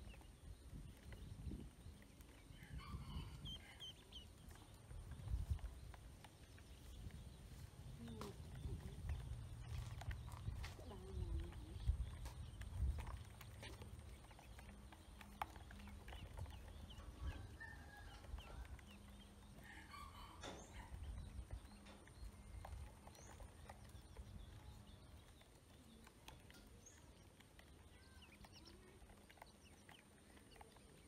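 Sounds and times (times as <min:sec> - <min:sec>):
ducklings peeping: 0:00.0 - 0:31.0.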